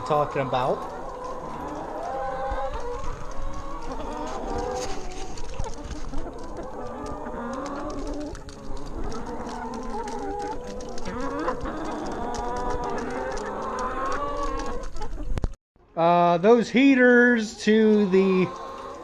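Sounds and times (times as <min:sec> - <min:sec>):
chickens clucking: 0:00.0 - 0:15.5, 0:16.4 - 0:19.0.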